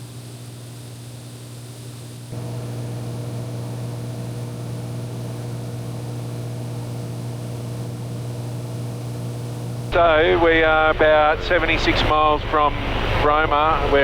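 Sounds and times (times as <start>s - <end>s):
propeller plane cabin drone: 0.0s - 14.0s.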